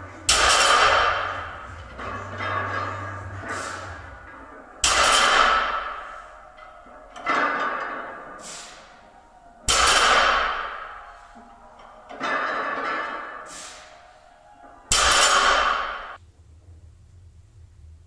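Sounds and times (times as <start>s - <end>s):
barbell clanging: 0.0s - 14.0s, 14.6s - 16.2s.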